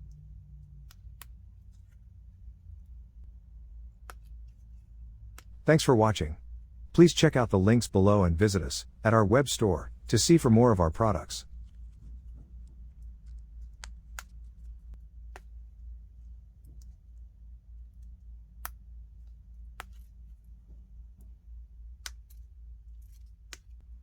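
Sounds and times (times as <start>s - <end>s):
low steady hum: 0.0s - 23.2s.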